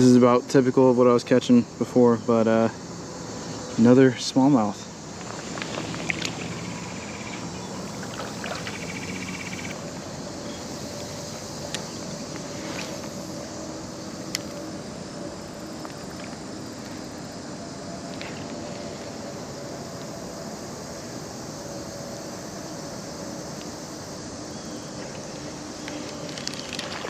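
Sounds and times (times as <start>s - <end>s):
traffic hum and rush: 0.0s - 27.0s
insect buzzing: 1.6s - 27.0s.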